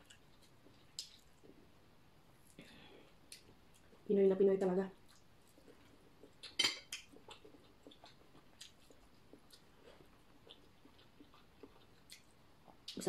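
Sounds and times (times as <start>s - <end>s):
person chewing food: 0.0s - 1.8s, 2.4s - 4.1s, 5.0s - 13.0s.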